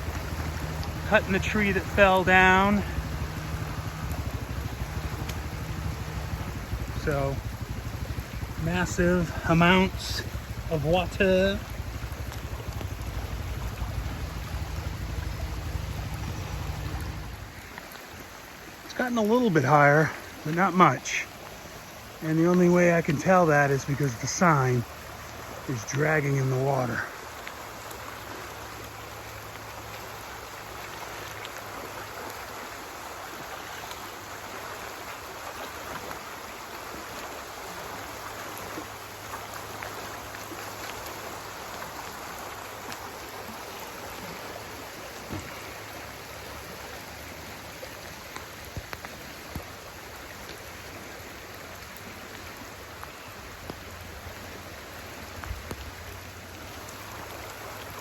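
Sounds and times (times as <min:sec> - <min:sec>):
creek rushing: 0:00.0 - 0:58.0
faint water splashing ticks: 0:00.0 - 0:58.0.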